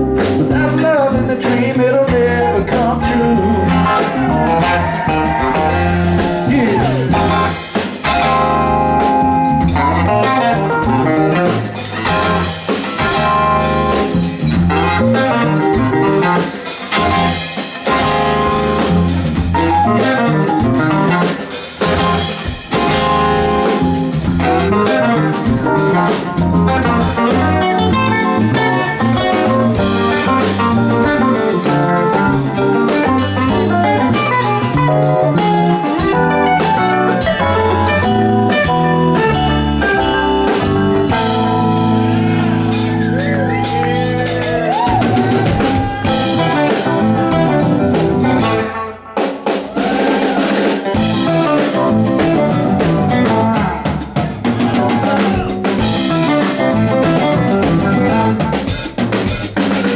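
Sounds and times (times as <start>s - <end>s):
drum kit: 0.0s - 59.9s
electric bass: 0.0s - 59.9s.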